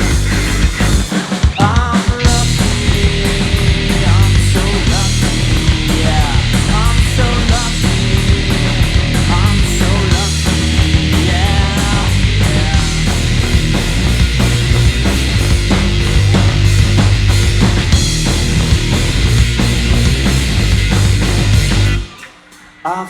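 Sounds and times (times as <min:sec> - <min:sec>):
bass guitar: 0:00.0 - 0:22.2
drum hits: 0:00.0 - 0:22.2
electric guitar: 0:00.0 - 0:23.0.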